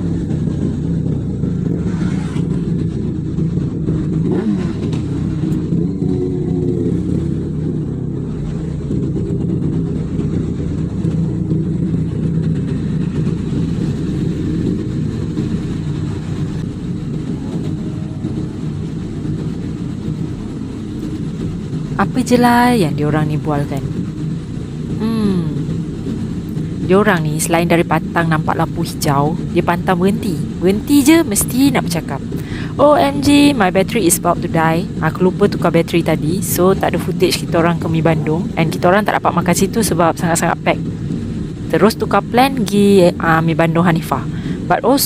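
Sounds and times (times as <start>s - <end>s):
motorcycle engine running: 0.0s - 45.0s
wind rumble on microphone: 0.0s - 45.0s.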